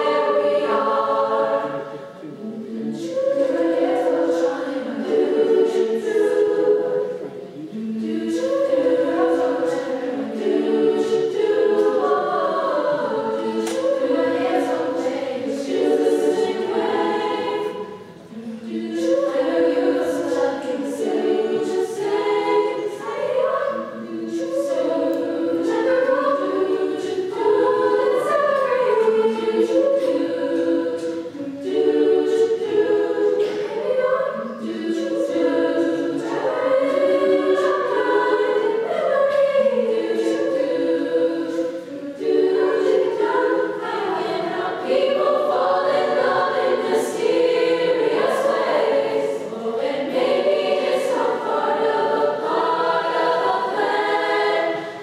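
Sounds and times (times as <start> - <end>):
a cappella group singing harmony: 0.0 - 55.0.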